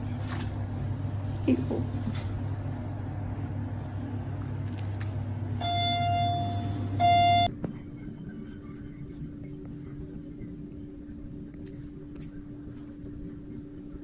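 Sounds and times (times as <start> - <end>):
faint higher hum: 0.0 - 14.0
steady low hum: 0.0 - 14.0.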